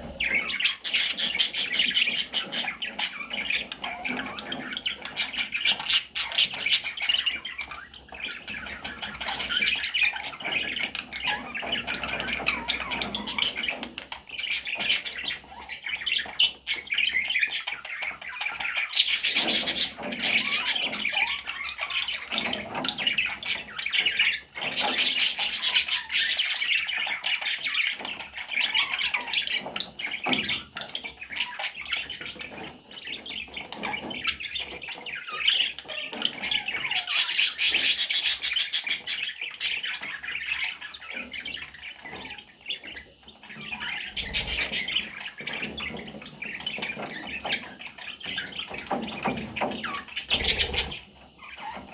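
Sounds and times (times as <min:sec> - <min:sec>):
budgerigars chirping: 0:00.0 - 0:51.9
harsh rasping bird calls: 0:00.0 - 0:51.9.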